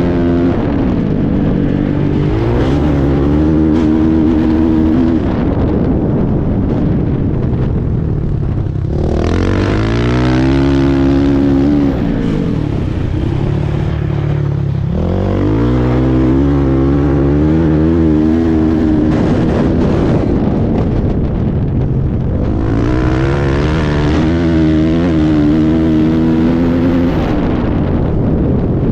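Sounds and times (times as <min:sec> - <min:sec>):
dirt bike engine revving: 0:00.0 - 0:05.9, 0:08.5 - 0:21.2, 0:22.1 - 0:27.8.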